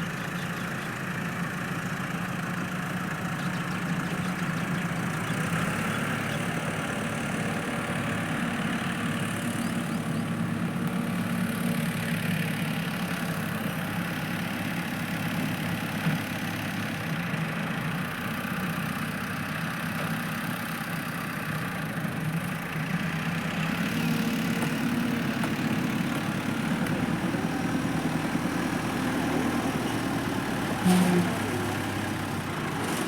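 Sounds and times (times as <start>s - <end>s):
tractor engine idling: 0.0s - 33.0s.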